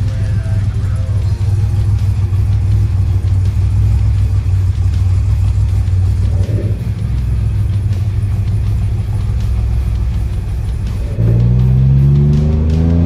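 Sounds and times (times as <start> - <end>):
car engine idling choppy rumble: 0.0 - 13.0.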